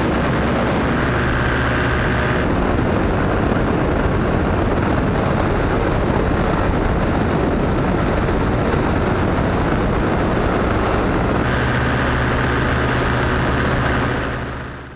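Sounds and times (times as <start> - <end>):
loud wind rush: 0.0 - 14.9.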